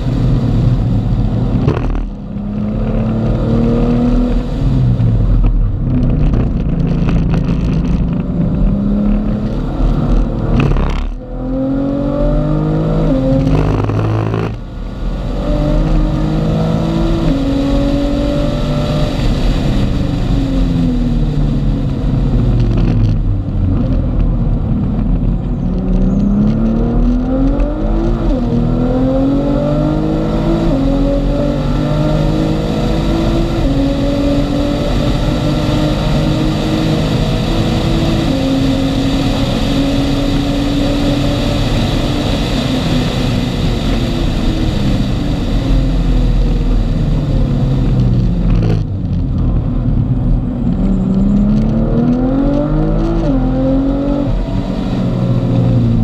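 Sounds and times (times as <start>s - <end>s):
car engine revving through gears: 0.0s - 56.0s
road and wind noise: 0.0s - 56.0s.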